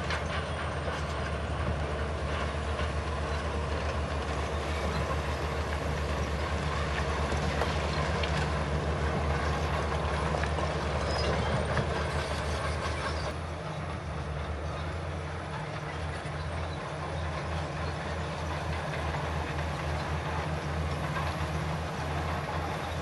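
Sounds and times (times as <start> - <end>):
bulldozer diesel engine under load: 0.0 - 23.0
crawler tracks clanking: 0.0 - 23.0.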